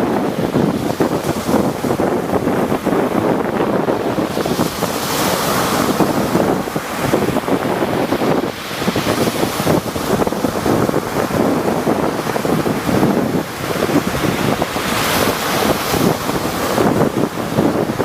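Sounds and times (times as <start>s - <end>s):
sea waves breaking: 0.0s - 18.0s
wind buffeting microphone: 0.0s - 18.0s.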